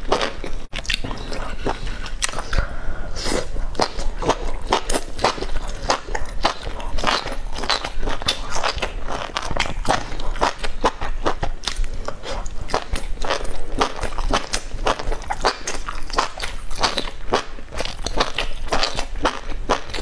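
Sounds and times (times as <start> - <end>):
chewing and crunching: 0.0 - 20.0.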